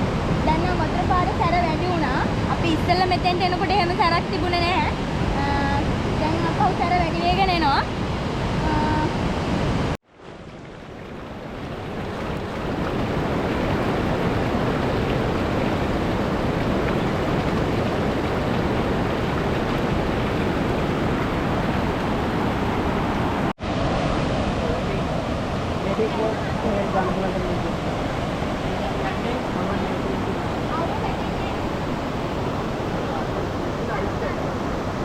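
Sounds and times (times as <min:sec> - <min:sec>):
fast-flowing water rushing: 0:00.0 - 0:35.0.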